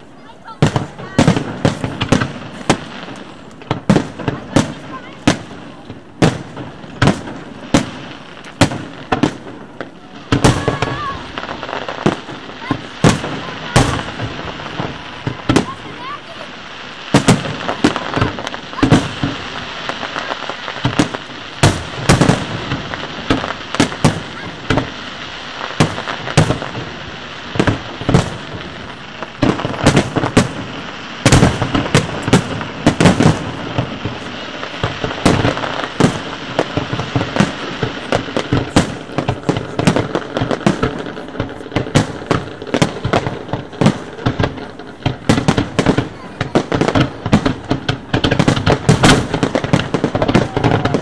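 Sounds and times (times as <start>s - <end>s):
fireworks crackling: 0.0s - 51.0s.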